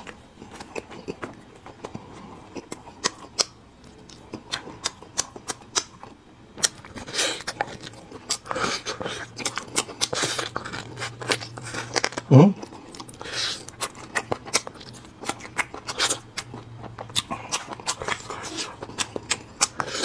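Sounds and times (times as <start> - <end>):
chewing with mouth clicks: 0.0 - 20.0.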